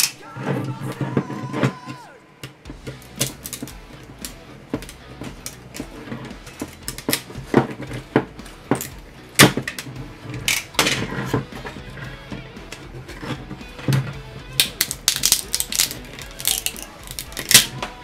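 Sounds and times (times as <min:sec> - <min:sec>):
plastic snapping and cracking: 0:00.0 - 0:18.0.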